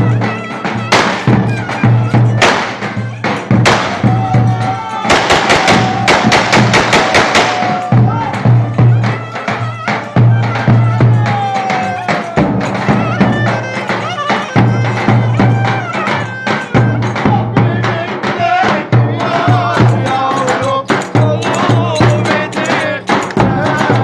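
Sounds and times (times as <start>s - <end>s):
folk dance music: 0.0s - 24.0s.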